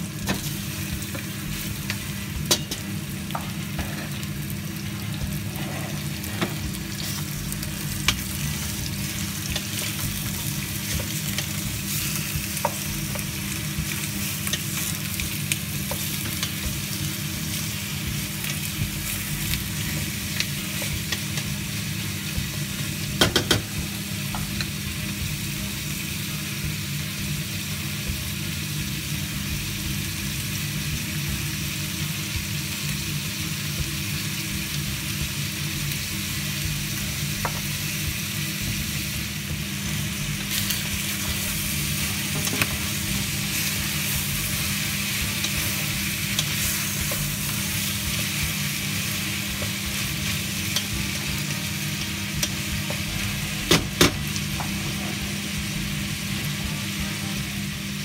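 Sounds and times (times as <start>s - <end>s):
meat sizzling in a pot: 0.0s - 58.0s.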